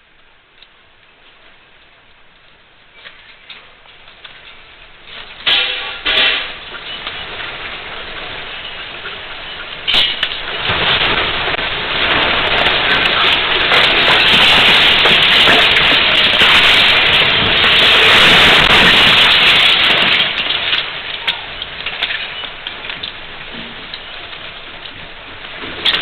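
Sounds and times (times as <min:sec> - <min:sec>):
earthquake rumbling: 0:00.0 - 0:26.0.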